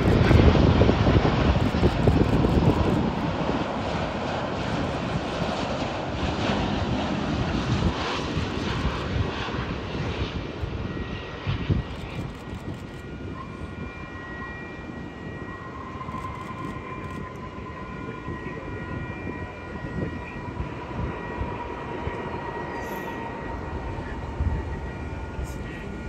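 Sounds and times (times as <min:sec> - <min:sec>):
distant jet engines rumbling: 0:00.0 - 0:26.0.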